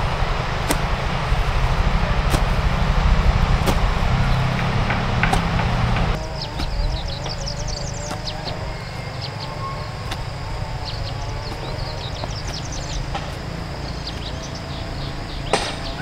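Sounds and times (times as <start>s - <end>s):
hoe striking dry soil: 0.0s - 14.6s
birds chirping: 0.0s - 16.0s
wind rumble on microphone: 0.0s - 16.0s.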